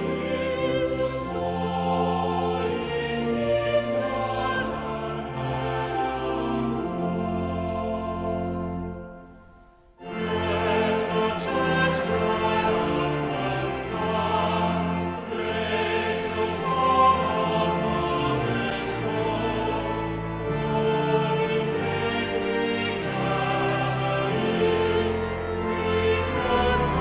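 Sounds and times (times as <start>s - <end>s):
choir singing with instruments: 0.0s - 27.0s.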